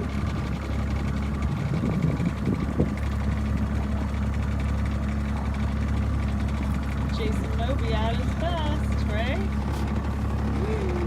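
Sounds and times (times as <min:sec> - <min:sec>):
outboard motor idling: 0:00.0 - 0:11.0.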